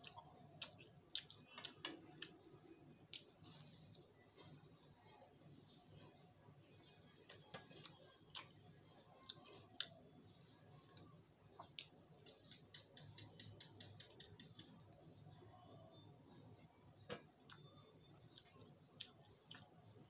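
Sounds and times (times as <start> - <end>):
chewing food: 0.0 - 5.2, 5.9 - 14.8, 17.3 - 20.0.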